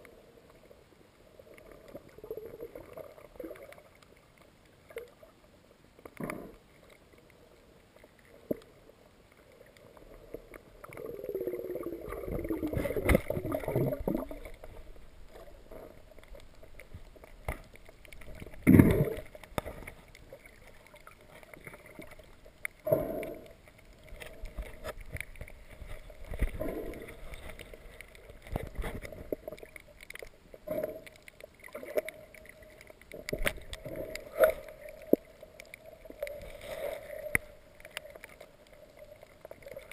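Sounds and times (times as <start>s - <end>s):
underwater gurgling and bubbling: 0.0s - 5.3s, 8.0s - 39.9s.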